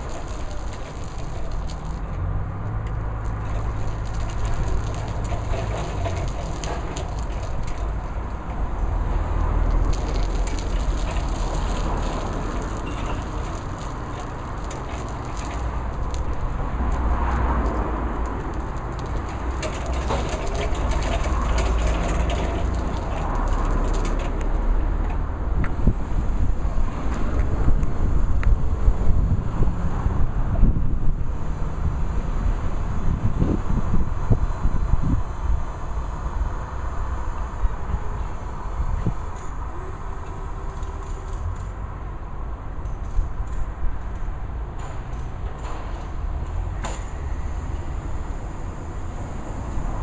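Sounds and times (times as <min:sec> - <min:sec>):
wind buffeting the microphone: 0:00.0 - 0:41.9.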